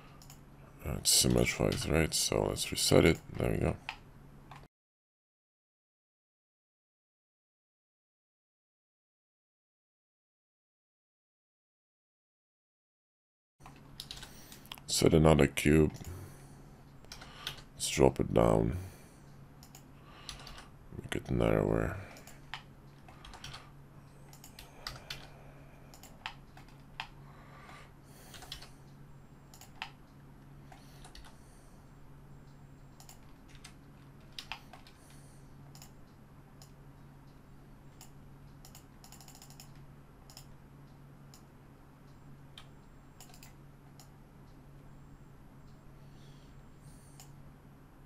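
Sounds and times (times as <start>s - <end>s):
steady low hum: 0.0s - 4.7s, 13.6s - 48.0s.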